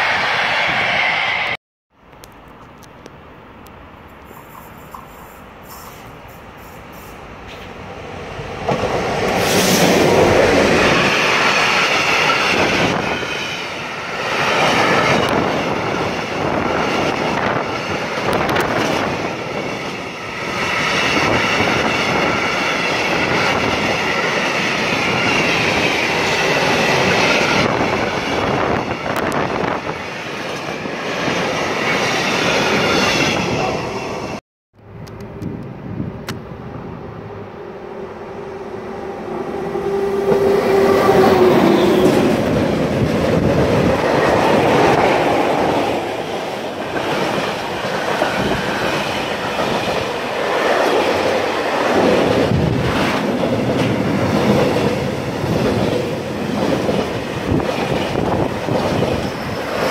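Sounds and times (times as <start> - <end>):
freight train rolling rumble: 4.0 - 59.9.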